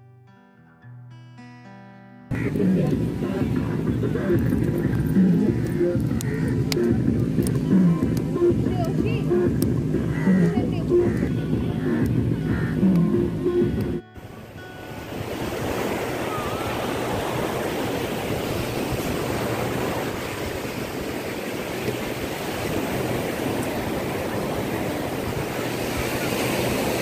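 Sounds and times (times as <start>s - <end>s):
surf washing up a beach: 2.3s - 27.0s
wind on microphone: 2.4s - 27.0s.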